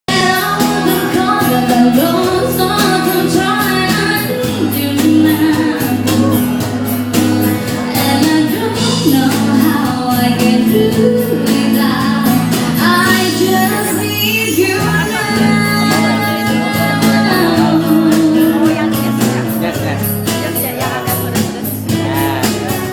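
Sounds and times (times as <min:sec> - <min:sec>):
bass and guitar: 0:00.1 - 0:22.9
drum beat: 0:00.1 - 0:22.9
person singing: 0:00.1 - 0:22.9.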